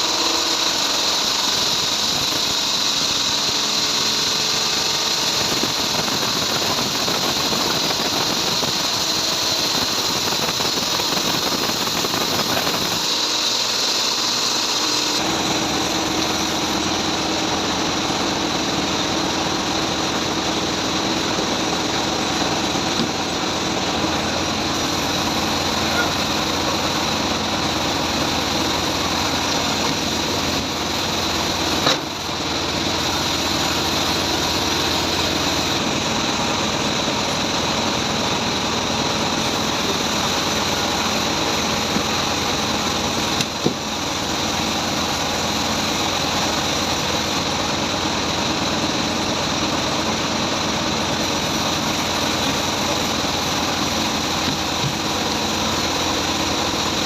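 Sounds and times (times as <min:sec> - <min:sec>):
band sawmill hissing and whining: 0:00.0 - 0:57.0.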